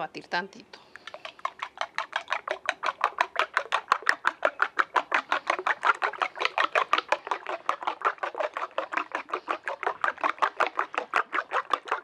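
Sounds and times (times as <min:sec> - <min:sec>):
spoon beating eggs in bowl: 0:00.8 - 0:12.0.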